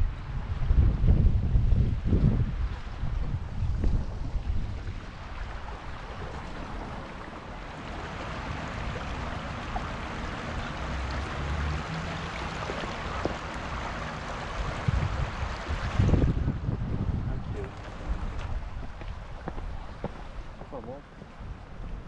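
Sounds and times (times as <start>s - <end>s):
shallow river rushing: 2.5s - 22.0s.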